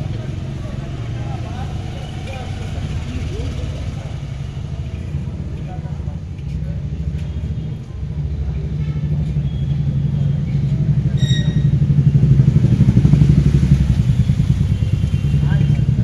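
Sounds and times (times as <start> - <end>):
pulsing engine rumble: 0.0 - 16.0.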